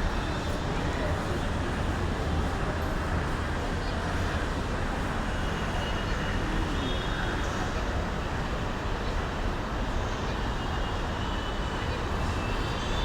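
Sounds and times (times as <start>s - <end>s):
train rumble inside carriage: 0.0s - 6.7s, 7.3s - 13.0s.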